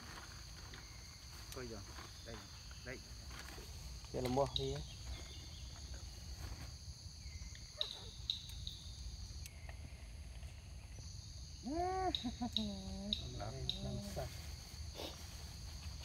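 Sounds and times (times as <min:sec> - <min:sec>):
insect chorus: 0:00.0 - 0:16.0.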